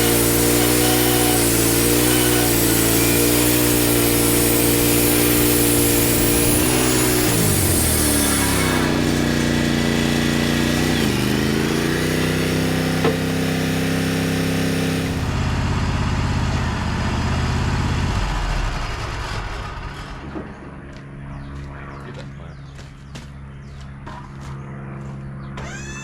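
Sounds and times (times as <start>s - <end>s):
sawmill engine running: 0.0s - 22.5s, 25.5s - 26.0s.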